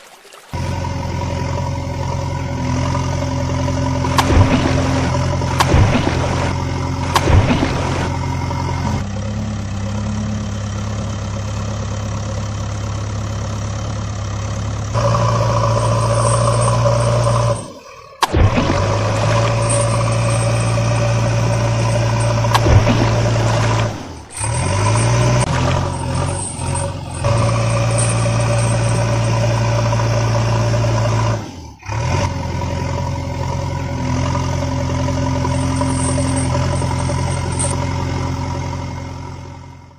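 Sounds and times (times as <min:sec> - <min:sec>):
heavy vehicle engine running: 0:00.6 - 0:39.9.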